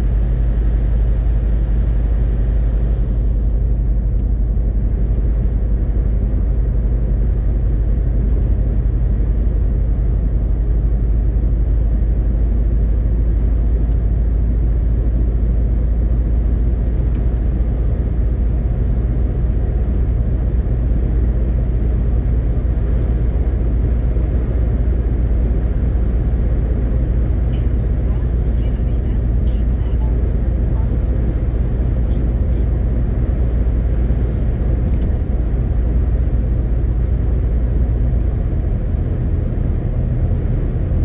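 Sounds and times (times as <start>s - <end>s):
road and tyre noise: 0.0s - 41.0s
truck diesel engine droning: 0.0s - 41.0s.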